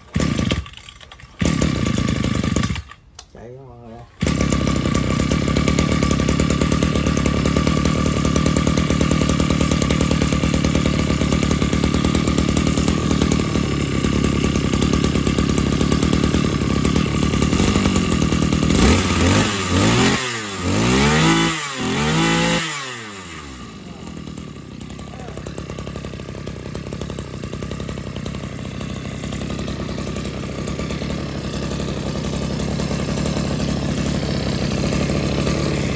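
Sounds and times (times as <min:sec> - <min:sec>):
two-stroke engine idling and revving: 0:00.0 - 0:03.0, 0:03.8 - 0:35.9.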